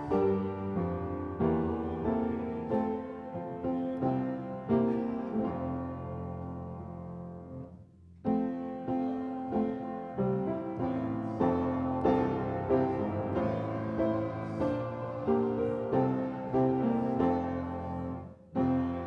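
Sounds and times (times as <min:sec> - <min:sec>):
slow classical piano piece: 0:00.0 - 0:19.0.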